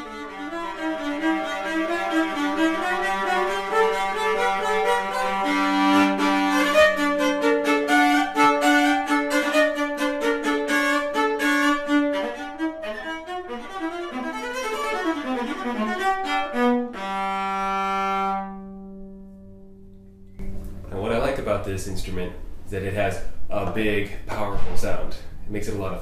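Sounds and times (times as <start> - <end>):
bowed viola melody: 0.0 - 21.2.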